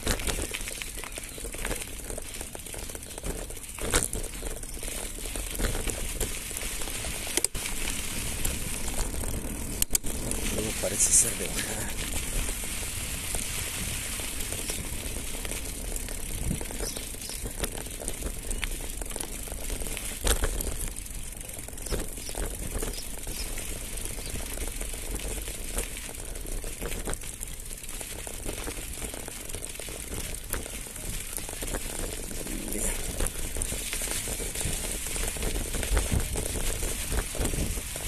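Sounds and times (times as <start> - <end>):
bike rattling: 0.0 - 38.0
tyres crunching over gravel: 0.0 - 38.0.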